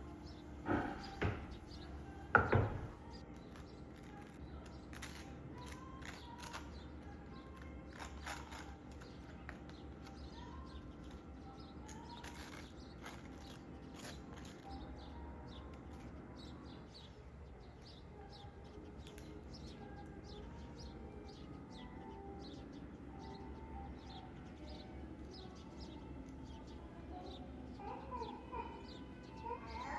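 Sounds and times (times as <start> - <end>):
low steady hum: 0.0 - 29.9
small birds chirping: 0.0 - 29.9.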